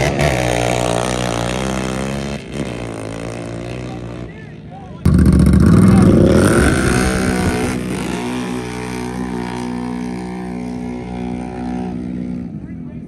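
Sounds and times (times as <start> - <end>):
atv engines revving: 0.0 - 13.0.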